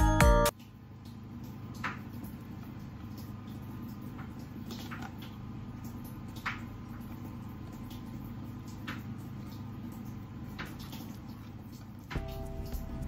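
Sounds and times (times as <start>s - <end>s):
steady low hum: 0.6s - 13.0s.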